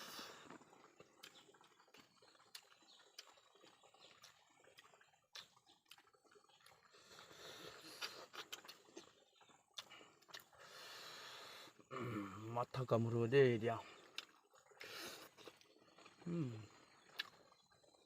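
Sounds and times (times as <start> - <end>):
chewing and mouth clicks: 0.1 - 10.9, 14.0 - 18.0.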